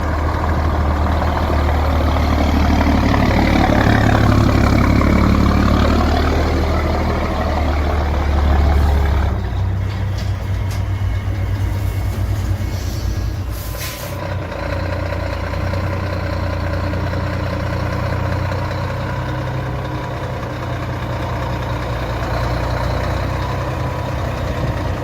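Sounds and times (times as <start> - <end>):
truck engine rumbling: 0.0 - 25.0.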